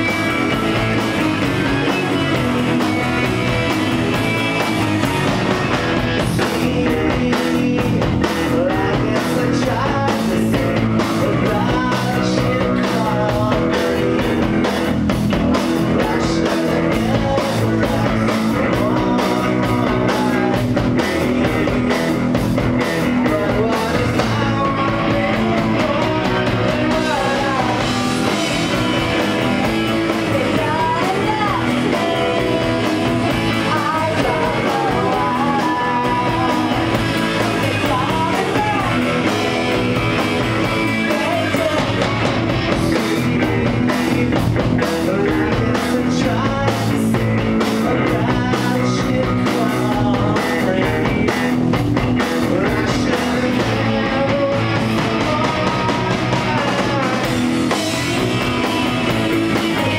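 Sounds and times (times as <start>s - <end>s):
person singing: 0.0s - 59.9s
punk rock band playing live: 0.0s - 59.9s.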